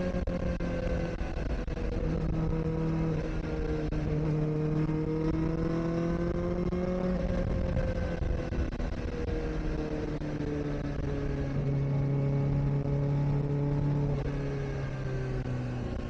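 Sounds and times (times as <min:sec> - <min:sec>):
motorcycle engine running: 0:00.0 - 0:16.0
road rumble: 0:00.0 - 0:16.0
wind: 0:00.0 - 0:16.0.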